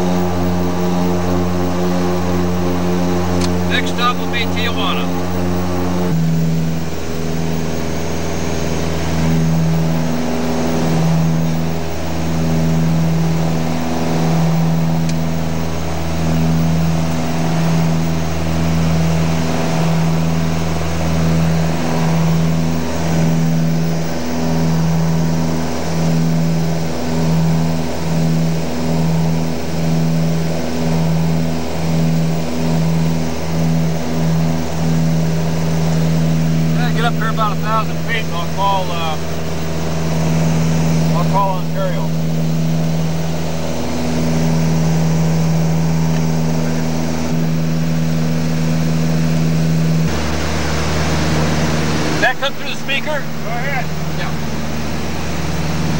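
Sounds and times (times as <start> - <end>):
airplane engine and propeller droning: 0.0 - 55.9.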